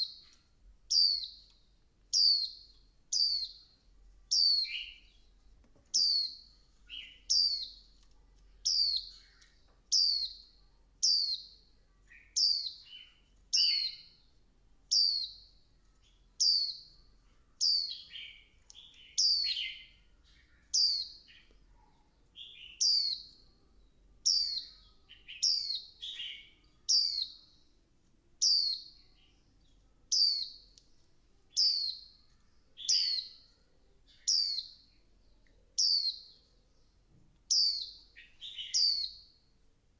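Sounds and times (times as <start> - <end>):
bird high chirps: 0.0 - 27.7, 28.4 - 29.5, 30.1 - 30.8, 31.5 - 36.6, 37.5 - 39.4.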